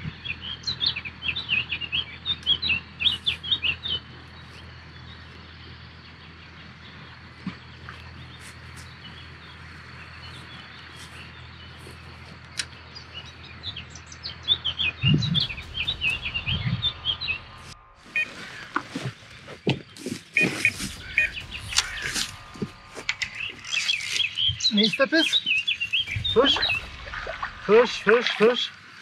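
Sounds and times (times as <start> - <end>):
low outdoor rumble: 0.0 - 19.7, 20.6 - 29.0
songbirds chirping: 0.0 - 29.0.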